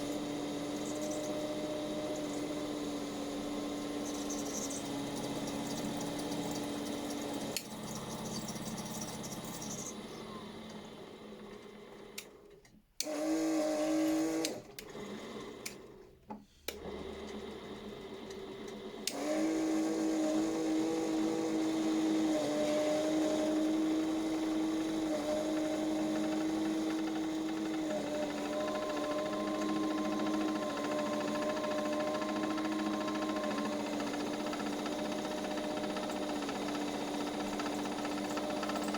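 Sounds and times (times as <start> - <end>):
washing machine spinning: 0.0 - 12.2, 16.8 - 38.9.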